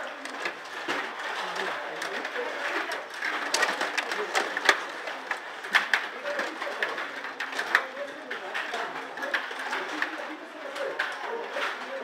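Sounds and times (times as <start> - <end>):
murmur of voices: 0.0 - 12.0
puck clacking against plastic: 0.0 - 12.0.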